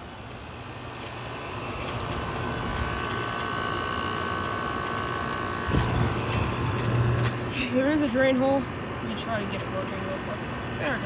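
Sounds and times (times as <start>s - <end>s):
high whine: 0.0s - 9.9s
air conditioner humming: 0.0s - 11.0s.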